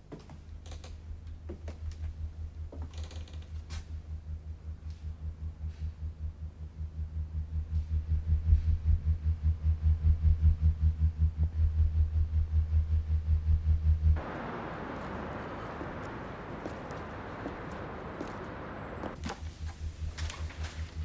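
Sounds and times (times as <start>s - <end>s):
low throbbing synthesizer pulse: 3.9s - 21.0s.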